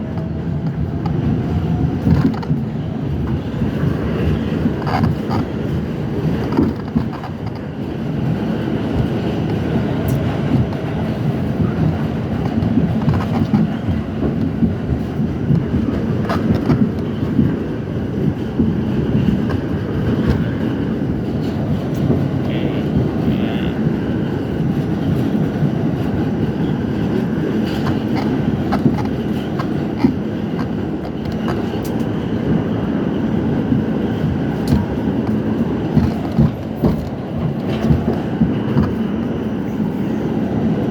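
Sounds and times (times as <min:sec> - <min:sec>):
subway train rumbling on track: 0:00.0 - 0:40.9.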